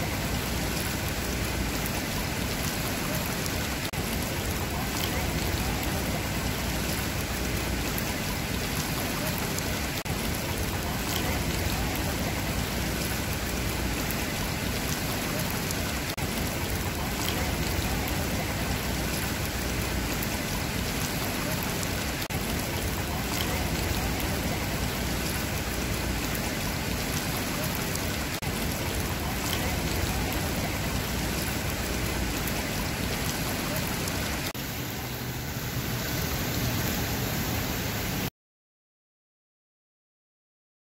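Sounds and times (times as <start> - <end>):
pool water splashing and trickling: 0.0 - 38.3.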